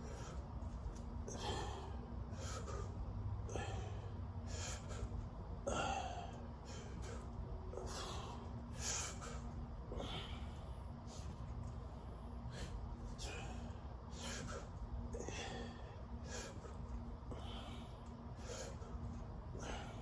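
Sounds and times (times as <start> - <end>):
person breathing hard: 0.0 - 20.0.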